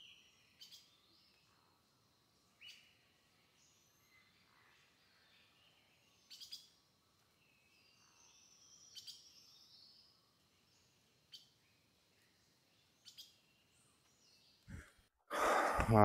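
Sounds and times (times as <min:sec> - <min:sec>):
faint bird chirps: 0:00.0 - 0:14.9.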